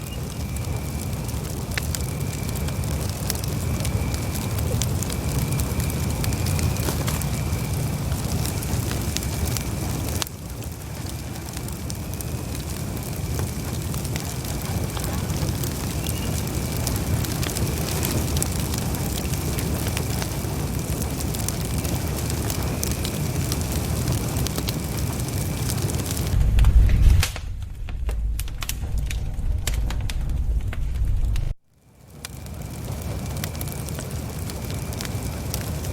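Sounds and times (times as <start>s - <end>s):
burning wood crackling: 0.0s - 35.9s
campfire flames rushing: 0.0s - 35.9s.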